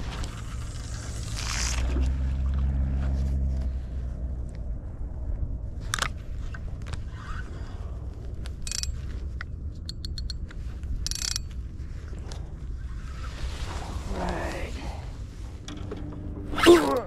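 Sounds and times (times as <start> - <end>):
wind and water rumble: 0.0 - 16.7
low motor hum: 0.0 - 17.0.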